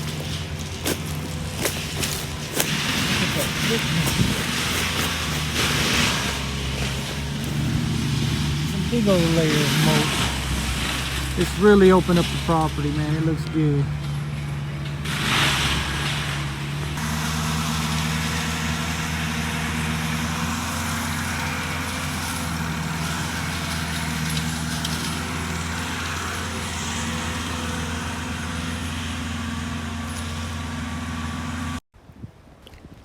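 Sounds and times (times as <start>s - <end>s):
skid steer mulcher running: 0.0s - 31.8s.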